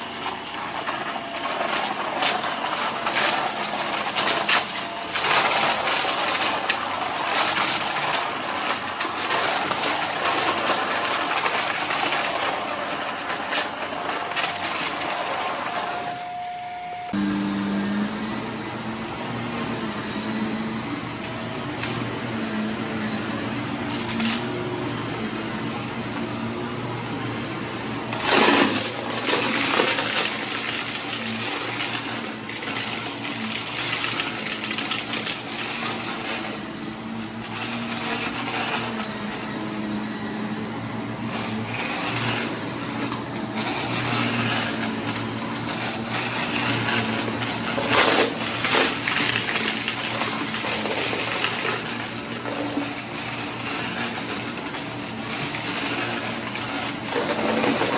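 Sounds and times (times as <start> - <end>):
debris rattling in vacuum: 0.0 - 17.3, 19.3 - 57.9
vacuum cleaner running: 0.0 - 57.9.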